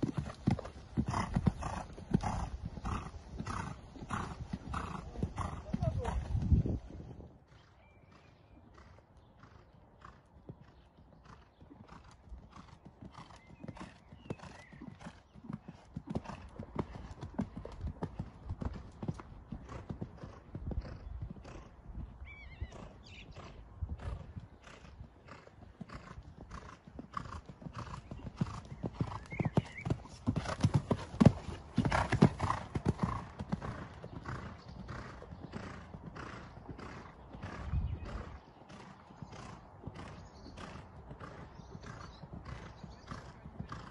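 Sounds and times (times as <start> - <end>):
muffled hoofbeats on sand: 0.0 - 43.9.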